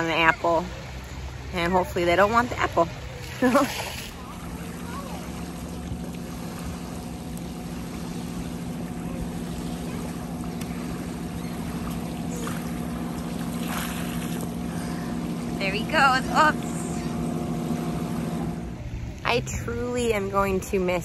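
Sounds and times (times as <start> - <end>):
motorboat engine humming: 0.0 - 21.0
wind and water: 0.0 - 21.0.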